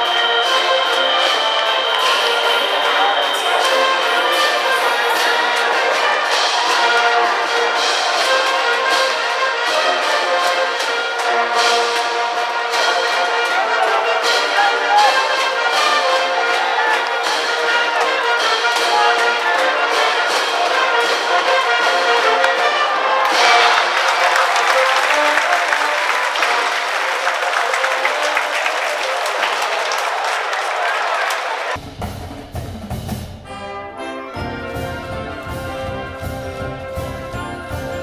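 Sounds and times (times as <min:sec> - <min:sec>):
brass band playing: 0:00.0 - 0:31.8.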